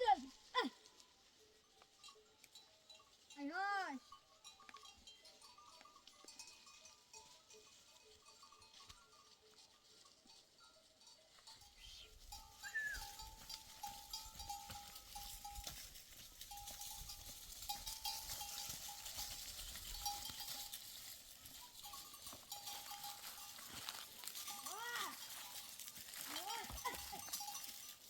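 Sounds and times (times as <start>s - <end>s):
livestock bells jingling: 0.0s - 28.0s.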